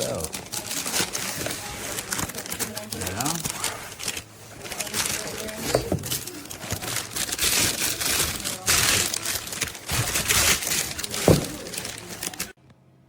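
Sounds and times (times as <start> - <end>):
packaging crinkling and rustling: 0.0 - 12.6.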